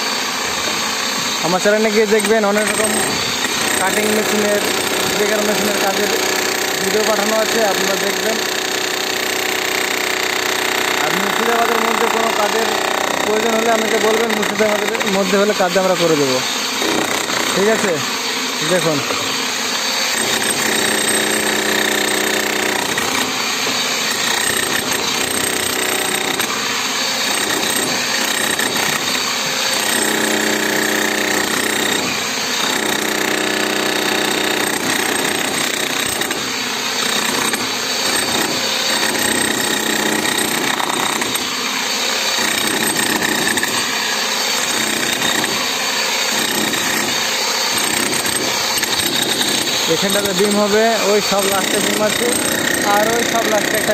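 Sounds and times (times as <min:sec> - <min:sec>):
demolition hammer chiselling concrete: 0:00.0 - 0:53.9.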